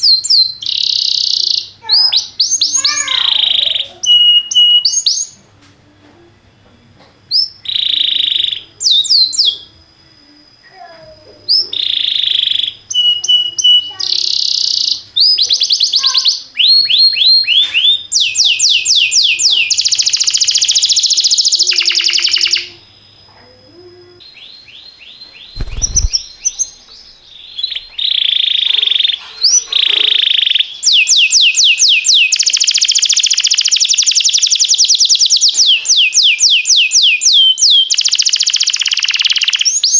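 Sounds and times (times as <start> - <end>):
canary singing: 0.0 - 5.4, 11.4 - 22.9, 24.2 - 39.9.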